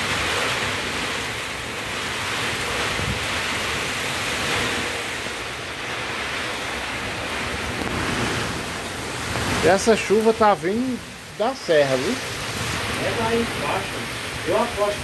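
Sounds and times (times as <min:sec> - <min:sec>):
gusty wind: 0:00.0 - 0:15.0
heavy rain pouring: 0:00.0 - 0:15.0.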